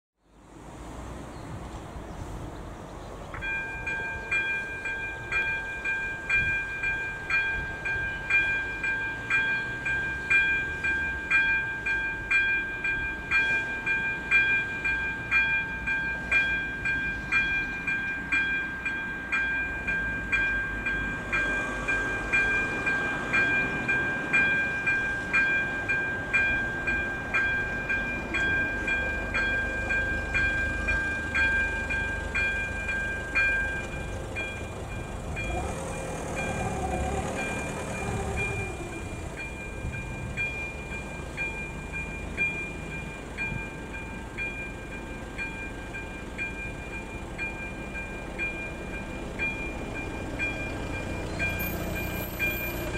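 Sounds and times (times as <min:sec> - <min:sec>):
level crossing warning bell: 0:03.3 - 0:52.9.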